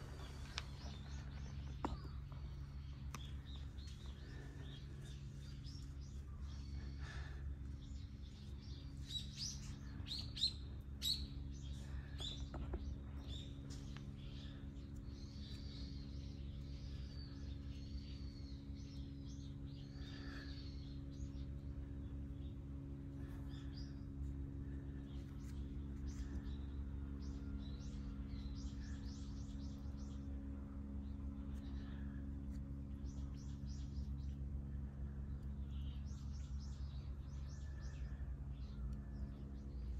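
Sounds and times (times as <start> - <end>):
small birds chirping: 0.0 - 39.9
steady low hum: 0.0 - 39.9.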